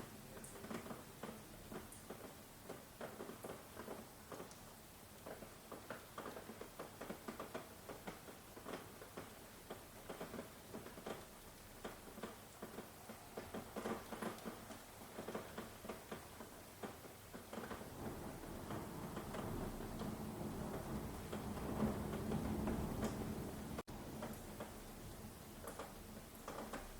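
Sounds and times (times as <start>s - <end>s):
rain falling: 0.0s - 26.9s
raindrops tapping: 0.0s - 26.9s.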